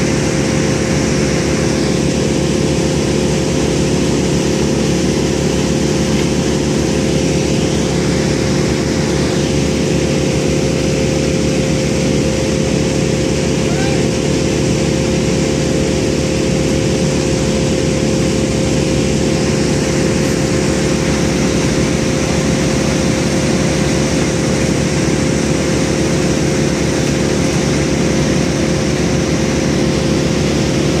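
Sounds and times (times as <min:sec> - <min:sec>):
heavy equipment engine running: 0:00.0 - 0:31.0.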